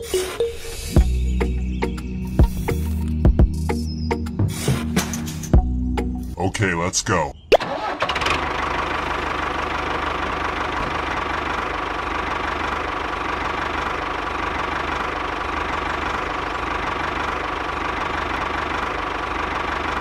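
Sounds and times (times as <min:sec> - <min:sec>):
tractor diesel engine running: 0:00.0 - 0:06.6, 0:07.6 - 0:20.0.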